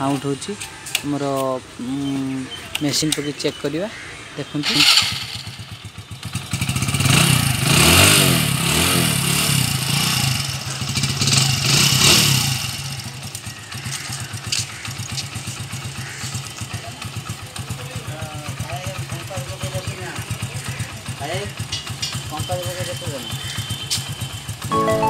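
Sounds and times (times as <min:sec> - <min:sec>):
motorcycle engine revving and idling: 0:04.6 - 0:24.7.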